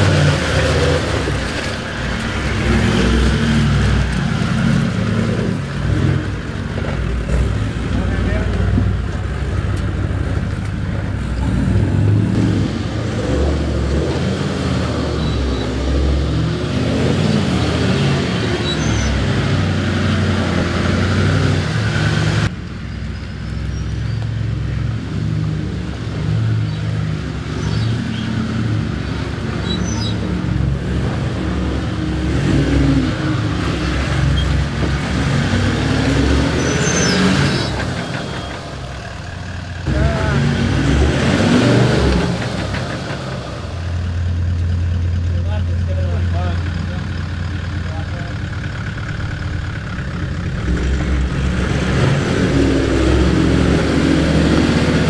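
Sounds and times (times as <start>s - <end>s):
engine revving under load: 0.0s - 22.5s, 23.9s - 55.0s.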